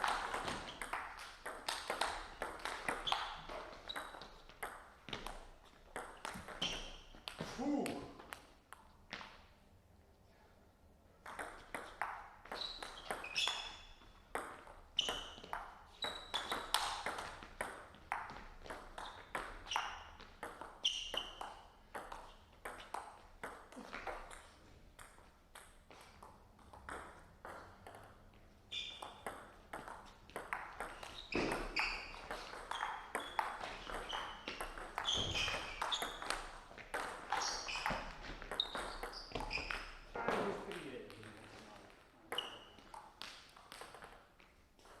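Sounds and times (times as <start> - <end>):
table tennis ball hits: 0.0 - 8.5, 11.2 - 28.2, 28.8 - 41.5.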